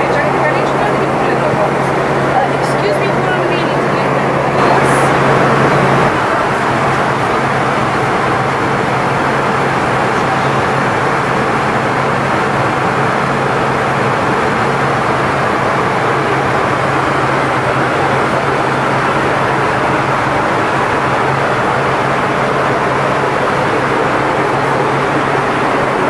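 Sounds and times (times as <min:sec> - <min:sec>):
airliner cabin air rush: 0:00.0 - 0:26.0
jet engine drone: 0:00.0 - 0:26.0
low hum: 0:00.0 - 0:26.0.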